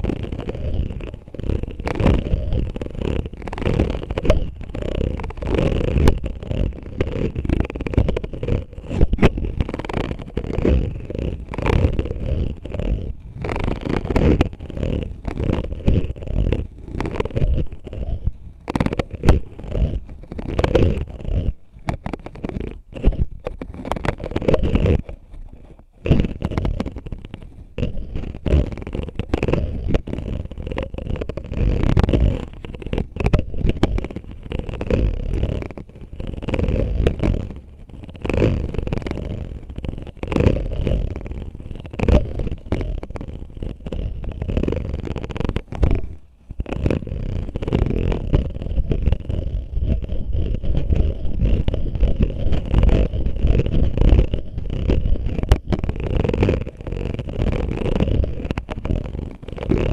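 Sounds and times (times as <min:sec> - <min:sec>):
scratching on a bottle: 0:00.0 - 0:59.9.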